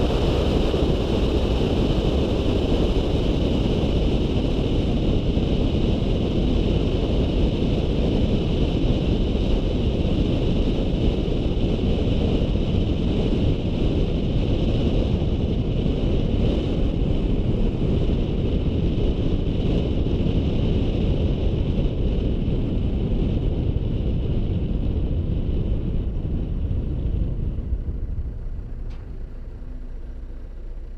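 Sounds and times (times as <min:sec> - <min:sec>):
car road and engine rumble: 0:00.0 - 0:30.9
wind buffeting microphone: 0:00.0 - 0:30.9.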